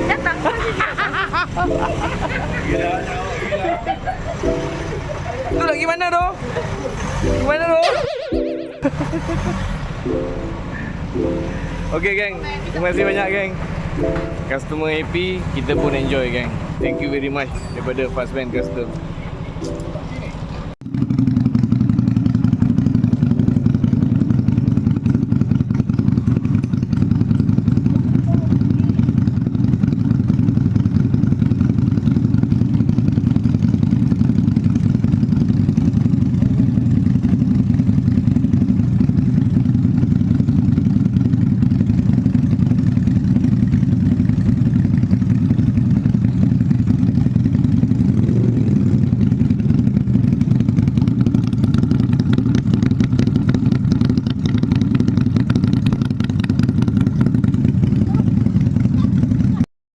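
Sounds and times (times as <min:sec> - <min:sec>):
motorcycle engine idling: 0:00.0 - 0:07.8, 0:08.8 - 0:59.6.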